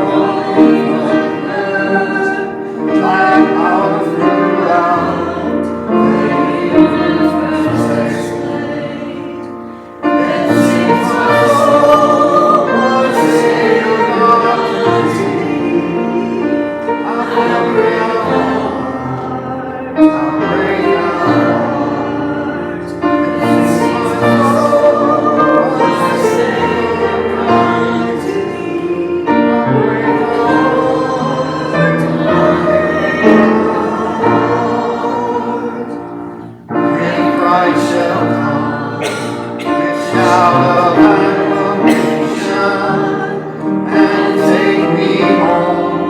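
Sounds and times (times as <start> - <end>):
congregation singing a hymn: 0.0 - 46.0
piano accompaniment: 0.0 - 46.0.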